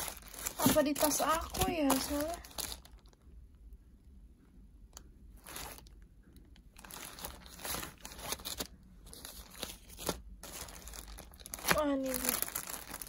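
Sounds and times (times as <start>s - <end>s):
plastic wrapping crinkling: 0.0s - 3.3s, 5.3s - 13.0s.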